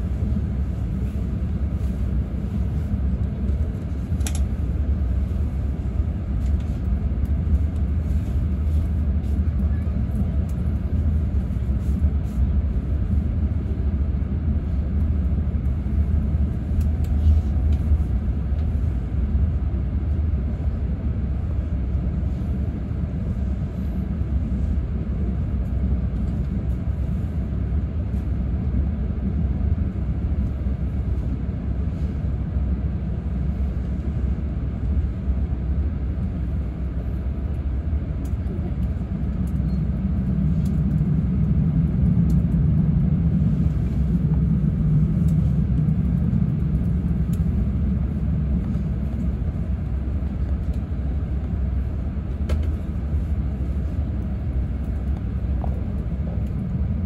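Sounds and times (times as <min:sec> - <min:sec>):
train rumbling from inside cabin: 0:00.0 - 0:57.0.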